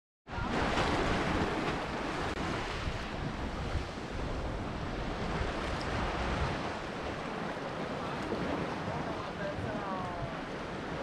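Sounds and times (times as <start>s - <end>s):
wind on microphone: 0.3s - 11.0s
waves washing on rocks: 0.4s - 11.0s.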